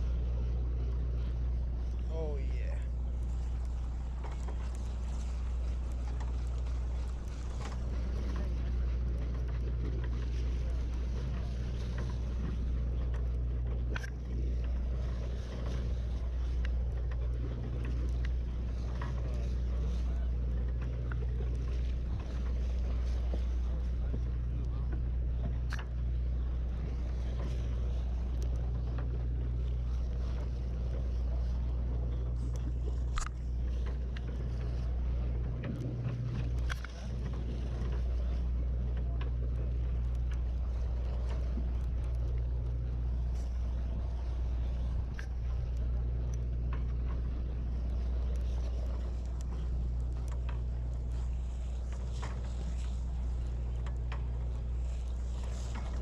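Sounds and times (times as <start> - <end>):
boat engine droning: 0.0 - 56.0
faint clicks and knocks: 2.7 - 56.0.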